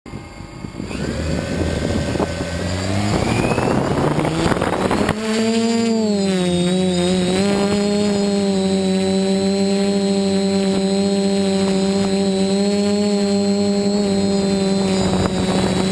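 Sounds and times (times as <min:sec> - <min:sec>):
quadcopter propellers droning: 0:00.1 - 0:15.9.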